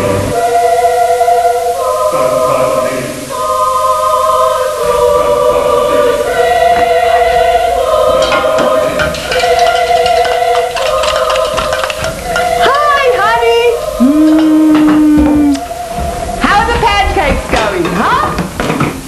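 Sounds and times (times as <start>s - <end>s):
choir singing sustained chords: 0.0s - 17.5s.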